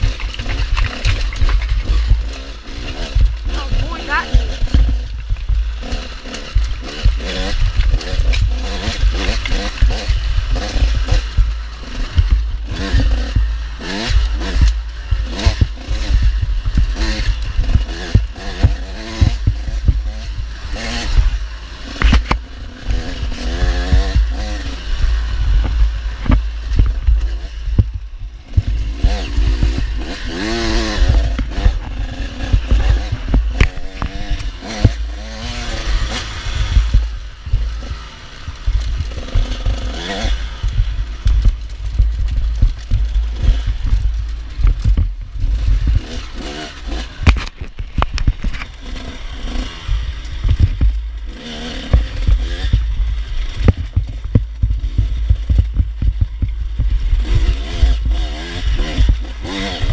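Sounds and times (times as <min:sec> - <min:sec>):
constant low rumble: 0:00.0 - 0:59.9
dirt bike engines revving: 0:00.0 - 0:59.9.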